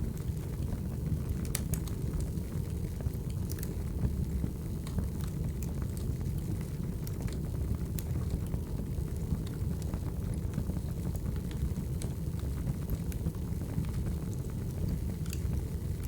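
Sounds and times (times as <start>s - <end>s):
wood fire rumbling: 0.0s - 16.0s
logs crackling and popping: 0.1s - 16.0s.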